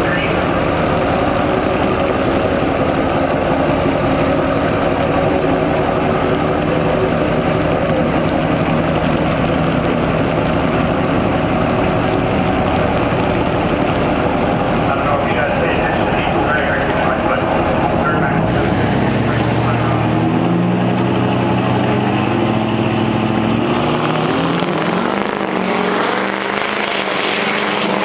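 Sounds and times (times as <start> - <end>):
diesel pickup engines idling: 0.0 - 28.0.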